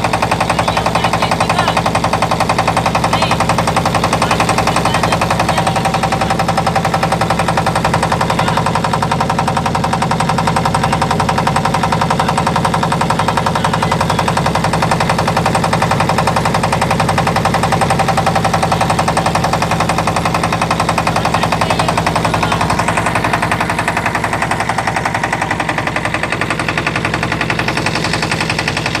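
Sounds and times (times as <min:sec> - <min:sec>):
boat engine chugging: 0:00.0 - 0:29.0.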